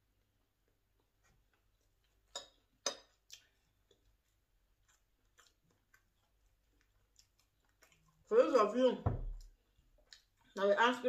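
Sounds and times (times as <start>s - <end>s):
faint chewing and mouth clicks: 0.1s - 8.7s, 9.3s - 10.8s.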